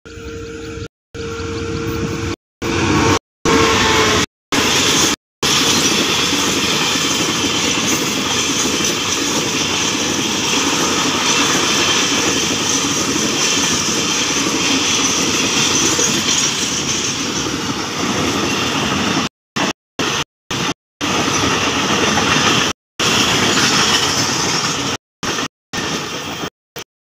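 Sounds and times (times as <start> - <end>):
freight train wheels on rails: 0.1 - 26.9.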